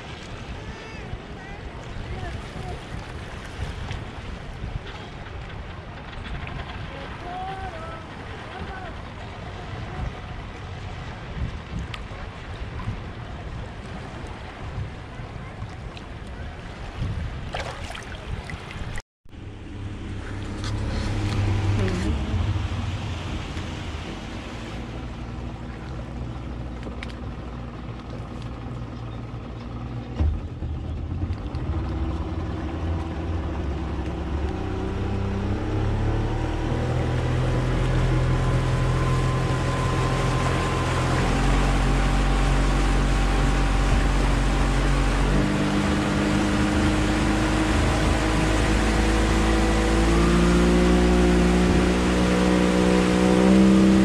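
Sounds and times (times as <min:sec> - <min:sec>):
outboard motor speeding up: 0:00.0 - 0:54.0
rush of water and wind: 0:00.0 - 0:54.0.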